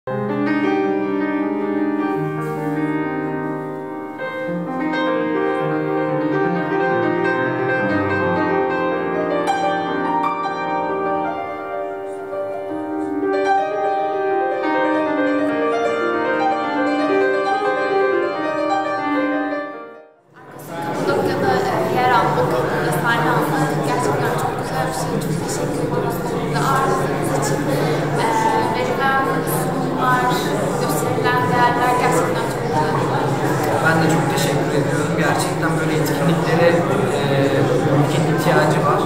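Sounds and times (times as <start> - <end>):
slow instrumental piano music: 0.1 - 39.0.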